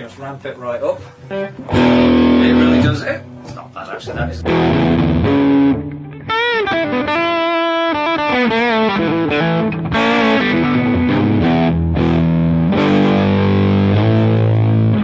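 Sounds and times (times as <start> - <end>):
overdriven electric guitar lead: 1.1 - 15.0.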